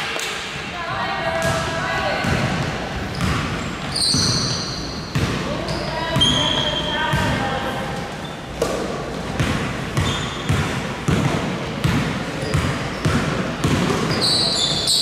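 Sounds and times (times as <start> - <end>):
basketball bouncing on gym floor: 1.3 - 7.7, 8.6 - 14.8.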